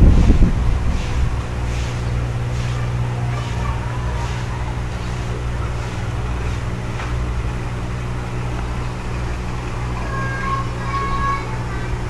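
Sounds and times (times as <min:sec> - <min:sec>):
aquarium air pump humming: 0:00.0 - 0:12.0.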